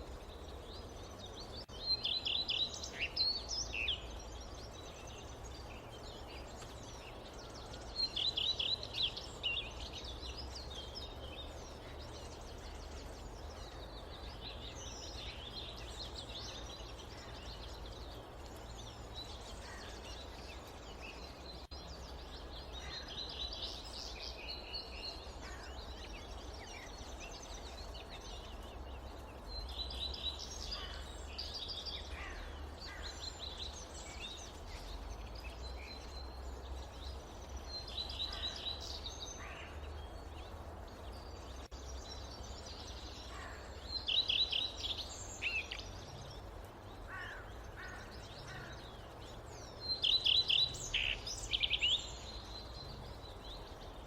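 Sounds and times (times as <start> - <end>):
birds chirping and trilling: 0.0 - 54.0
low rumble and hiss: 0.0 - 54.0.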